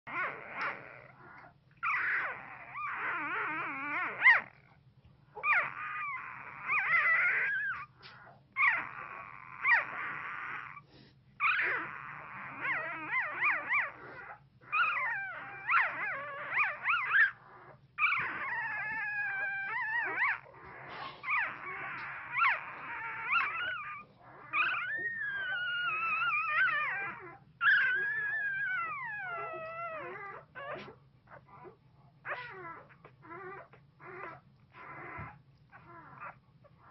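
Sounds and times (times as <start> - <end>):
puppy whimpering and crying: 0.1 - 36.9.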